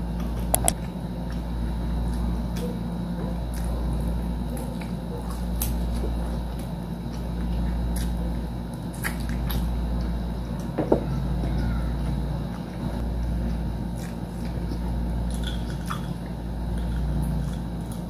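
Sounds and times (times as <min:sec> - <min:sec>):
chewing crunchy food: 0:00.0 - 0:18.0
low background hum: 0:00.0 - 0:18.0.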